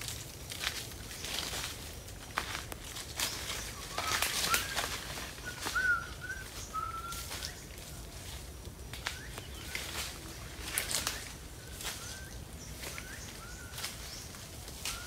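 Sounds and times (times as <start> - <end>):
footsteps on dry leaves: 0.0 - 15.0.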